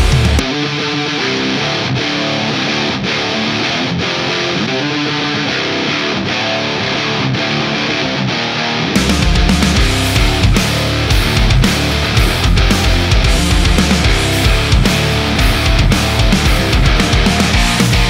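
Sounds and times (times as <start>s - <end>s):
distorted electric guitar riff: 0.0s - 18.0s.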